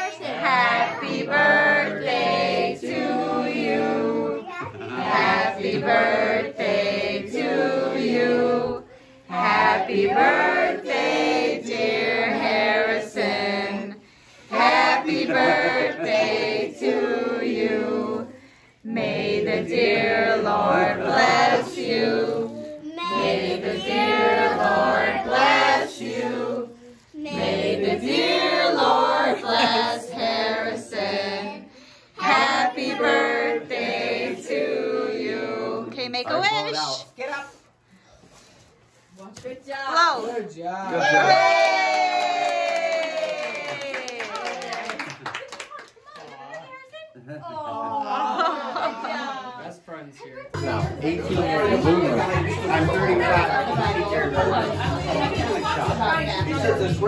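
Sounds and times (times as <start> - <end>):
group singing a birthday song: 0.0 - 45.4, 47.3 - 57.0.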